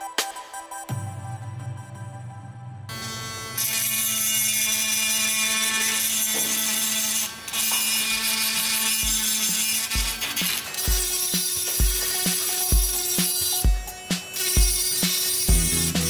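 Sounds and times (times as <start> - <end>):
rotary tool grinding metal: 2.9 - 16.0.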